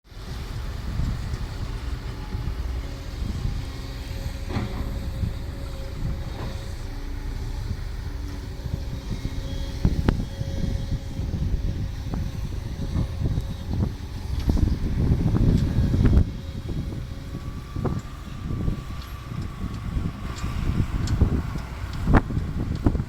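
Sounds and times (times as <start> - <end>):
diesel truck engine rumbling: 0.1 - 23.0.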